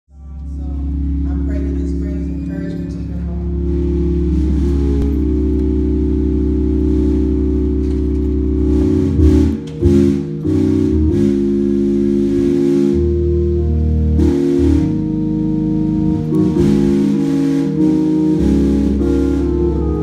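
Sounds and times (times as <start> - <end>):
deep bass: 0.1 - 20.0
sustained organ chords: 0.1 - 20.0.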